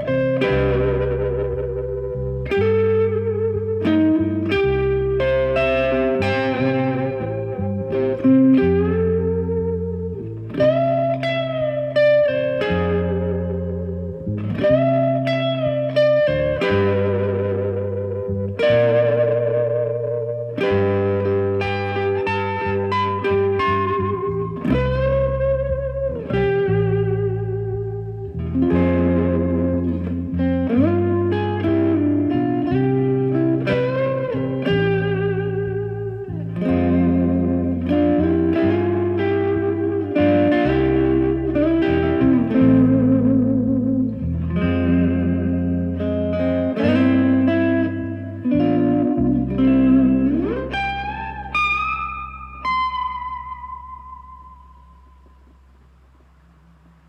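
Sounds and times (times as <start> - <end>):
electric bass long low notes: 0.0 - 57.0
electric guitar melody with vibrato: 0.0 - 57.0.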